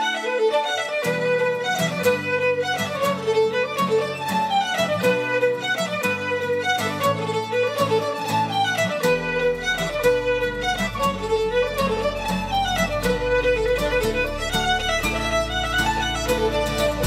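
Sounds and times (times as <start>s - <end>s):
lively fiddle tune: 0.0s - 17.0s.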